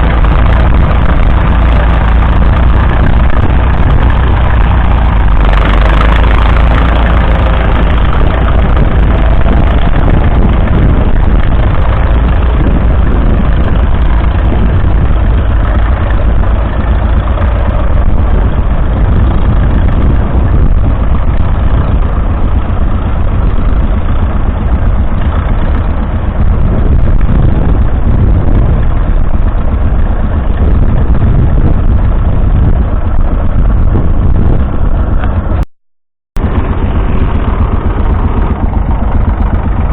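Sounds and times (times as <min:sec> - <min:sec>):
tractor engine running: 0:00.0 - 0:35.7, 0:36.3 - 0:39.9.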